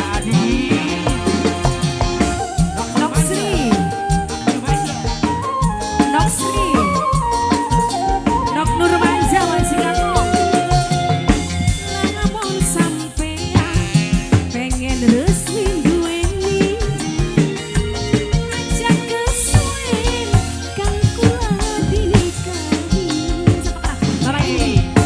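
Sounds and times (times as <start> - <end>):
drums and bass: 0.0 - 25.0
lead melody long notes: 0.0 - 25.0.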